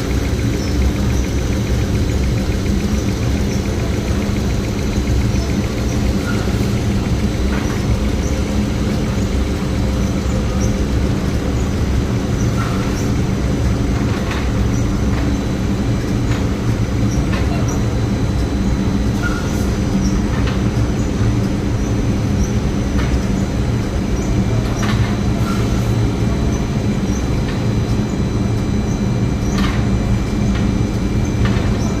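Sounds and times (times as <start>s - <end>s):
factory machinery humming: 0.0s - 32.0s.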